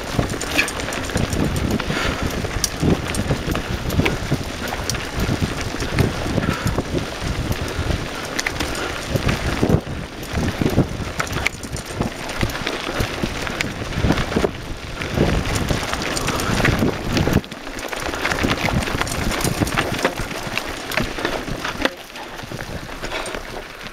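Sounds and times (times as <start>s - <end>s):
bike rattling: 0.0s - 23.9s
tyres crunching over stones: 0.0s - 23.9s
wind buffeting microphone: 0.0s - 23.9s.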